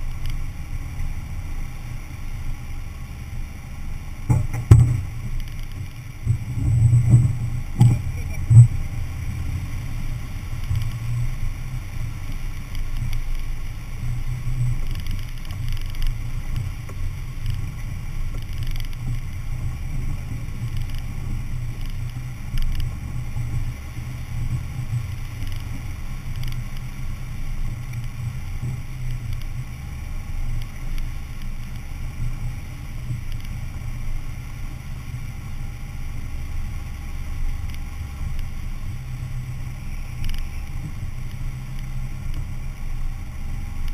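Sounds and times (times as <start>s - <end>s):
road rumble: 0.0s - 43.9s
vehicle engine running: 0.0s - 43.9s.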